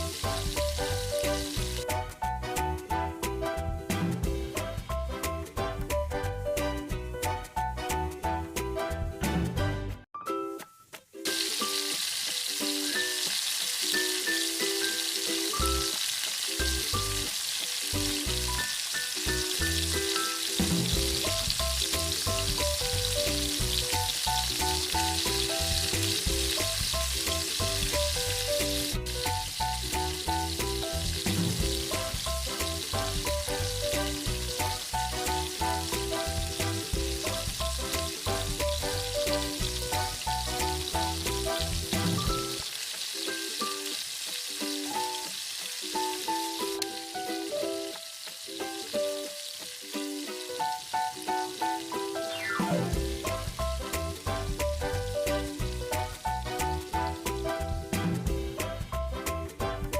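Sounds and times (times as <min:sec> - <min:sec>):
food sizzling in hot oil: 0:00.0 - 0:07.4, 0:11.2 - 0:59.9
instrumental background music: 0:00.0 - 0:59.9.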